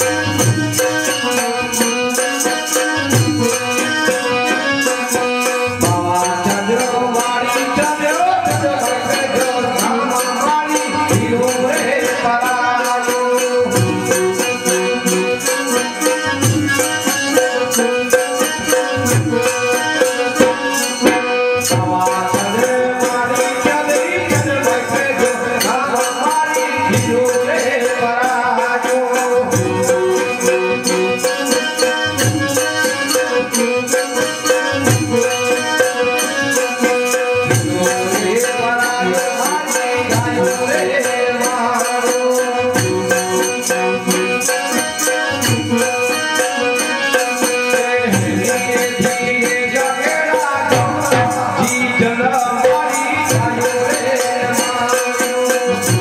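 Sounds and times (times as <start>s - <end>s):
folk melody instrument: 0.0s - 56.0s.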